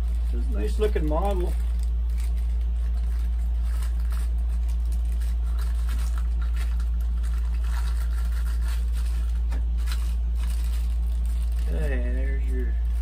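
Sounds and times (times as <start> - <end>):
plastic bag crinkling: 0.0 - 13.0
steady low hum: 0.0 - 13.0.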